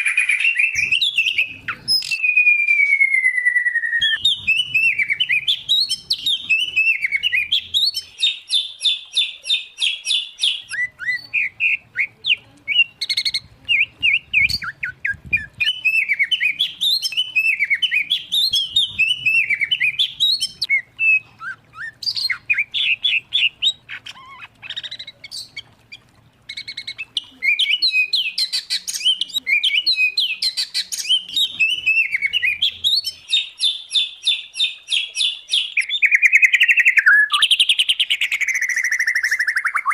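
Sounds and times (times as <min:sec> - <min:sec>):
birdsong whistles and trills: 0:00.0 - 0:39.9.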